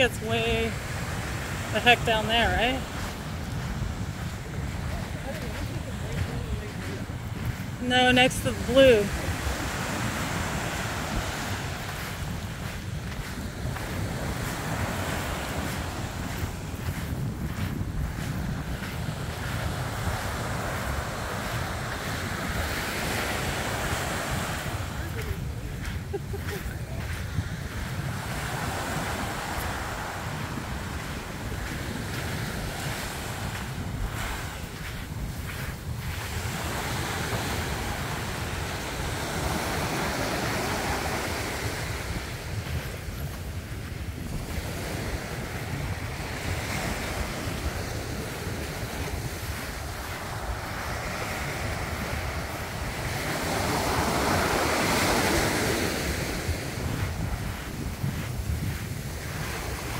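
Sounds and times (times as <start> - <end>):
waves breaking on beach: 0.0 - 59.9
wind buffeting microphone: 0.0 - 59.9.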